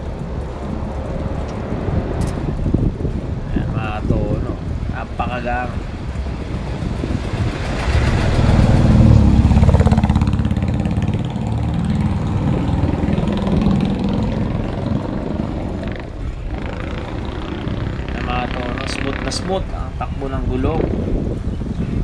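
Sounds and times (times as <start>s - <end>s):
vehicle engine passing: 0.0s - 21.4s
wind and road rumble: 0.0s - 22.0s.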